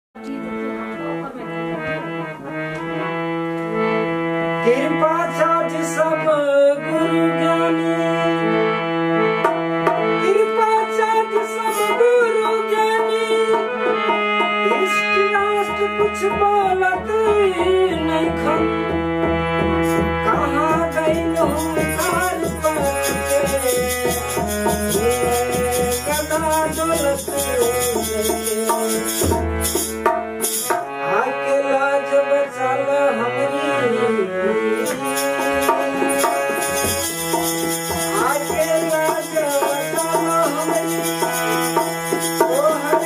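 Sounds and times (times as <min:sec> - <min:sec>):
harmonium chords and melody: 0:00.2 - 0:43.0
man singing: 0:04.6 - 0:08.8, 0:10.1 - 0:19.1, 0:20.0 - 0:29.4, 0:30.8 - 0:43.0.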